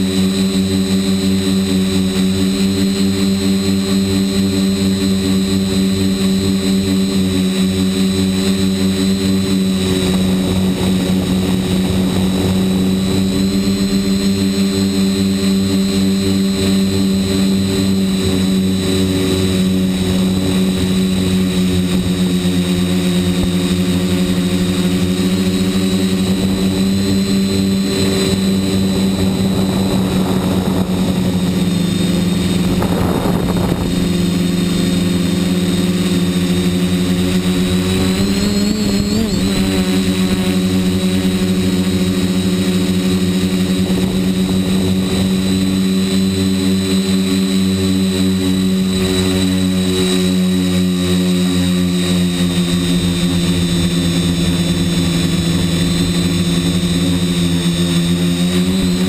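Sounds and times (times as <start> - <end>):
drone propellers buzzing: 0.0 - 59.0.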